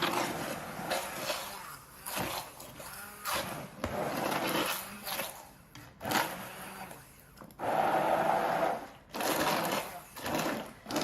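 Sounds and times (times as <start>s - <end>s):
immersion blender running: 0.0s - 11.0s.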